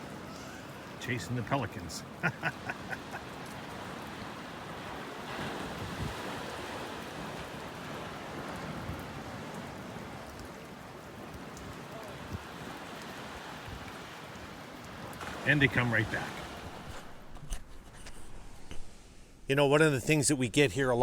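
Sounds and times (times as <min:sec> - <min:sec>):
rain falling: 0:00.0 - 0:17.4.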